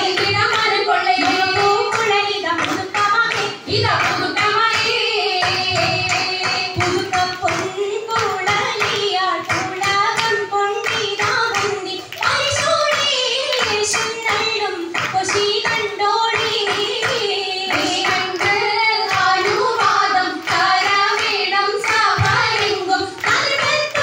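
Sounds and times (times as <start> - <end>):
rhythmic hand-clapping: 0.0 - 24.0.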